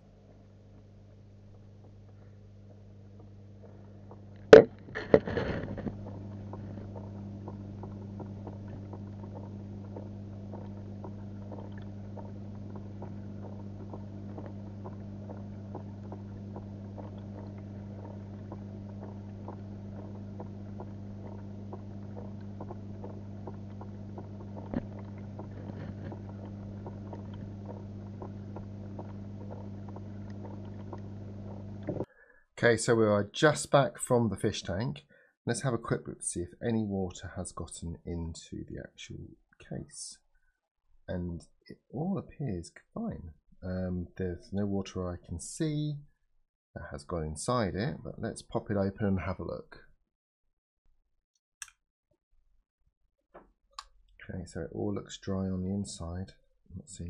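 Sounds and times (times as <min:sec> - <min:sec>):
muffled low hum: 0:00.0 - 0:40.2, 0:41.1 - 0:46.0, 0:46.8 - 0:49.8, 0:54.2 - 0:57.0.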